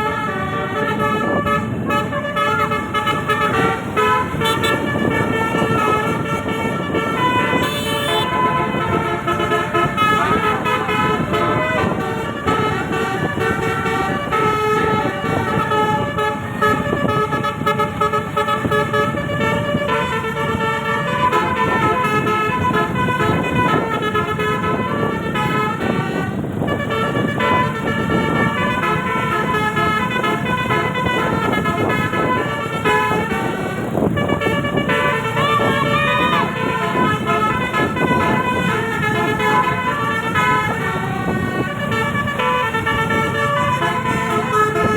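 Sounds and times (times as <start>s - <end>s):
air horns playing a tune: 0.0s - 44.9s.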